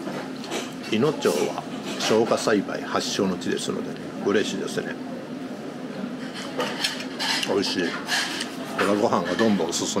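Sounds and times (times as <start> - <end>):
restaurant room noise: 0.0 - 10.0.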